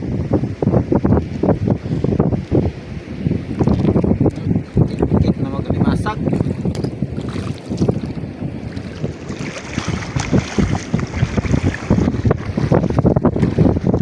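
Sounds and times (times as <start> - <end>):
wind buffeting microphone: 0.0 - 14.0
feet wading through shallow water: 2.7 - 14.0.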